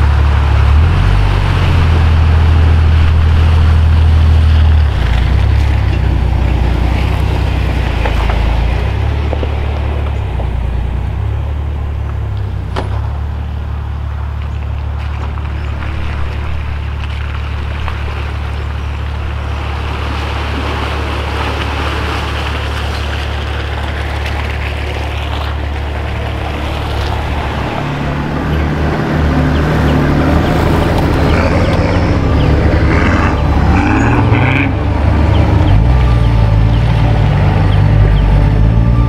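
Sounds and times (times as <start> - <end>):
road and wind noise: 0.0 - 39.0
vehicle engine droning: 0.0 - 39.0.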